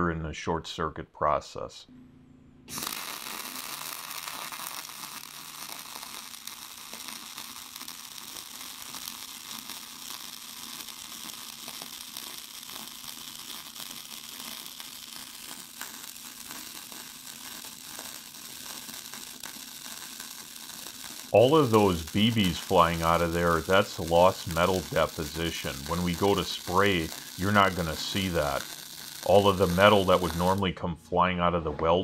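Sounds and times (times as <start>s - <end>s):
welding arc crackling: 2.7s - 30.7s.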